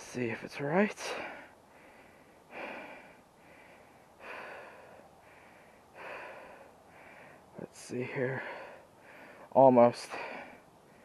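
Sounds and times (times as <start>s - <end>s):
man breathing hard: 1.0s - 11.0s.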